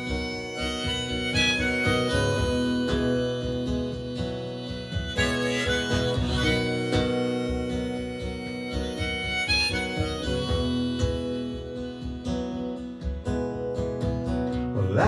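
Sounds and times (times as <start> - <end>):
harmonica melody: 0.0 - 14.1
guitar accompaniment: 0.0 - 15.0.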